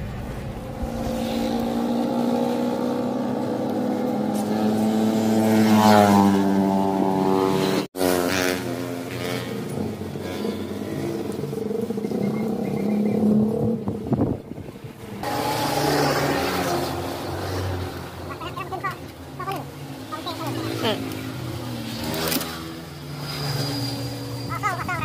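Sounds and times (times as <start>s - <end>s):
engine speeding up: 0.0s - 25.0s
vehicle engines passing: 0.0s - 25.0s.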